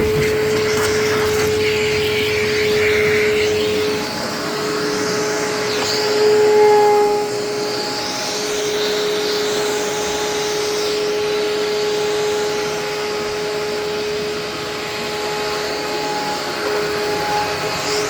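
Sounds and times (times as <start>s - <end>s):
rushing airflow hiss: 0.0s - 18.0s
vacuum cleaner motor running: 0.0s - 18.0s.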